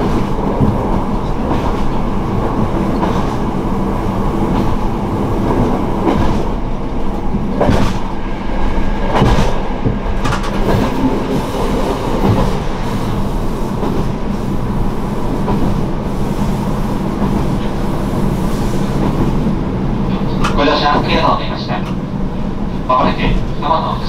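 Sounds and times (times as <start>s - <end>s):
train running rumble and hum: 0.0s - 24.0s.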